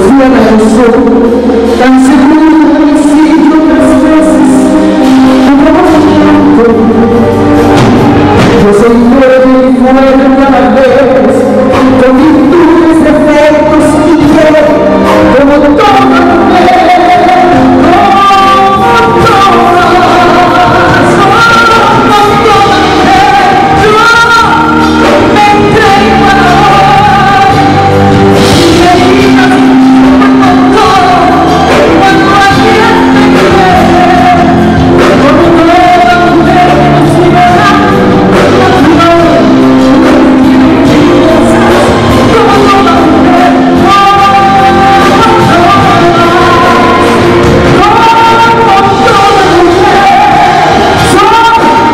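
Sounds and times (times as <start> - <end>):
instrumental accompaniment: 0.0 - 51.9
person singing live: 0.0 - 51.9.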